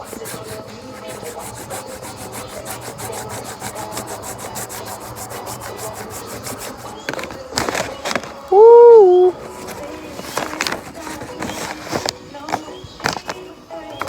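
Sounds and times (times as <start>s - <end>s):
plant rubbing against stone: 0.0s - 8.5s, 9.3s - 13.4s.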